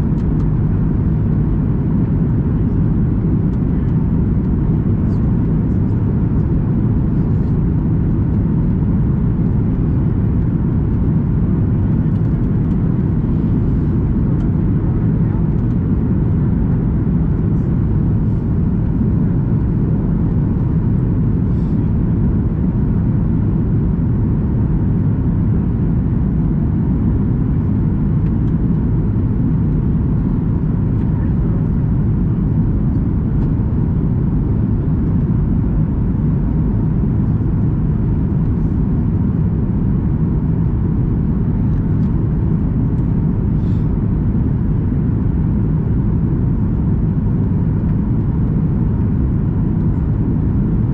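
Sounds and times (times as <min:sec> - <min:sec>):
airplane cabin roar: 0:00.0 - 0:50.9.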